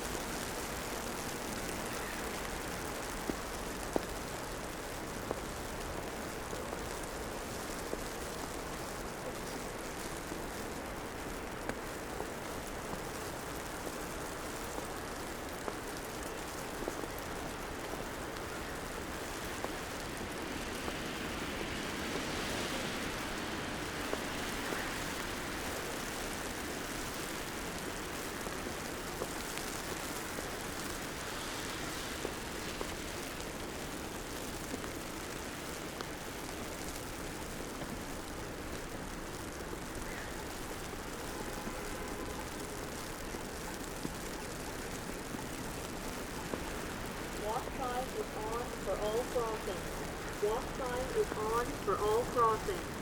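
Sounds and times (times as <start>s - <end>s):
hiss of wet street: 0.0s - 53.0s.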